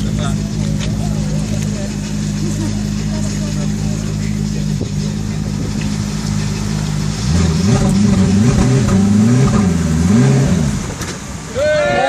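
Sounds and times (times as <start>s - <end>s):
car engine idling: 0.0s - 12.0s
car engine throttle blips: 0.0s - 12.0s.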